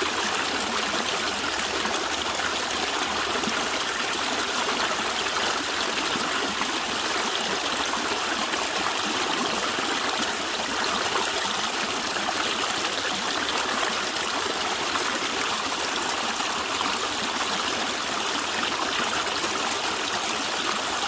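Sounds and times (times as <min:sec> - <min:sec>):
stream gurgling over stones: 0:00.0 - 0:21.0.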